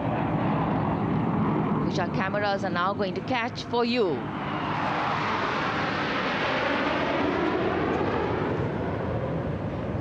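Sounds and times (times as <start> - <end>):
jet aircraft flying past: 0.0 - 10.0.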